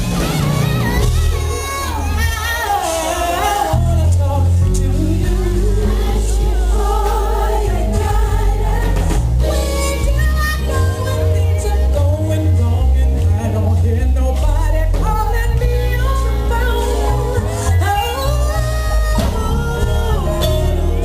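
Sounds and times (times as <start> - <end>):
band accompaniment with bass: 0.0 - 21.0
woman singing gospel: 0.9 - 21.0.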